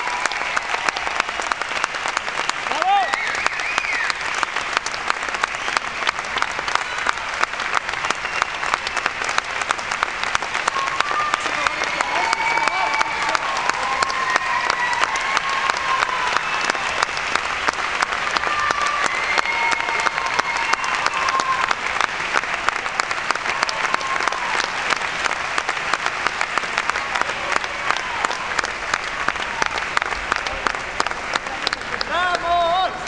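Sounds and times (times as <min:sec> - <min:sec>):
audience clapping: 0:00.0 - 0:33.0.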